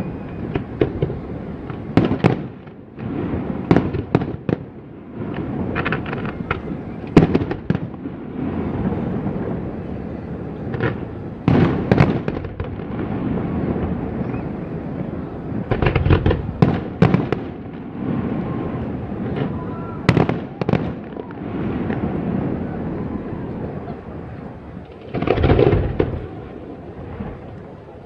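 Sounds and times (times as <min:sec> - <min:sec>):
fireworks sharp bangs: 0:00.0 - 0:28.0
low rumble of explosions: 0:00.0 - 0:28.0.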